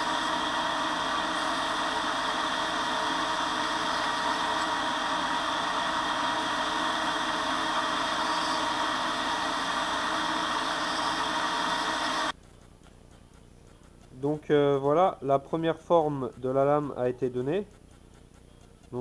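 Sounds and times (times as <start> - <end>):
belt grinder grinding steel: 0.0 - 19.0.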